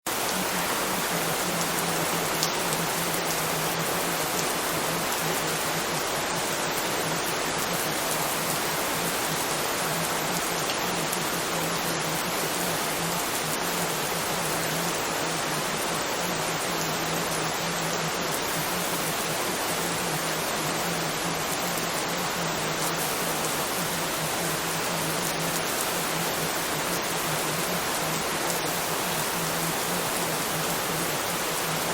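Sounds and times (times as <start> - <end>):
steady rain: 0.1 - 31.9.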